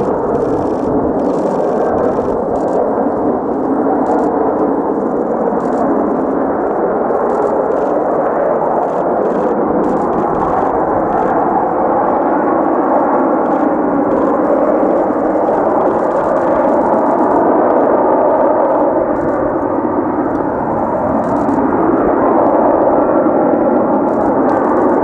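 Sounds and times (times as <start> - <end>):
jet engine droning: 0.0 - 25.0.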